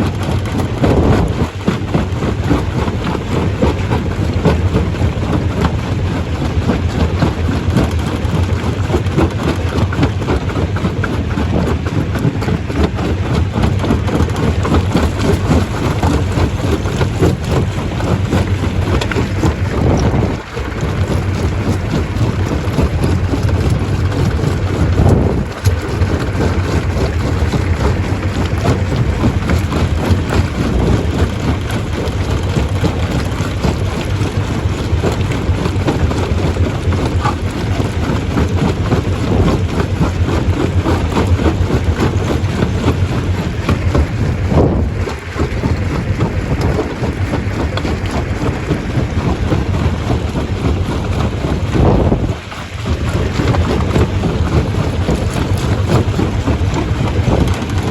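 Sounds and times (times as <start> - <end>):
stone crusher crushing rock: 0.0 - 57.9.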